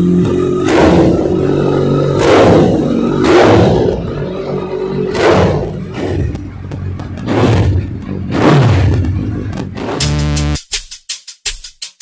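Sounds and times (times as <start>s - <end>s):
motorcycle engine idling and revving: 0.0s - 10.6s.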